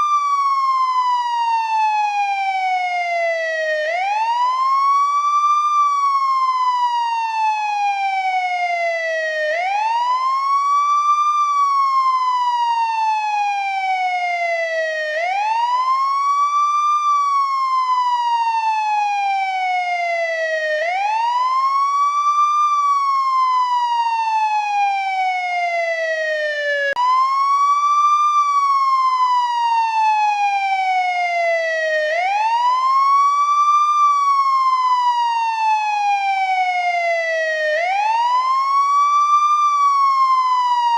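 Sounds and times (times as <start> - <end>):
ambulance wail siren: 0.0 - 40.9.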